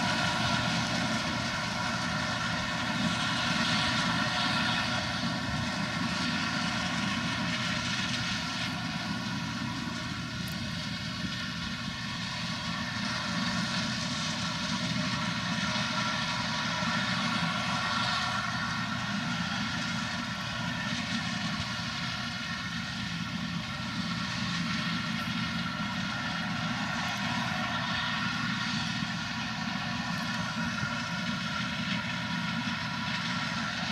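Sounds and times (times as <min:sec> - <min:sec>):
heavy farm machinery engine drone: 0:00.0 - 0:33.9.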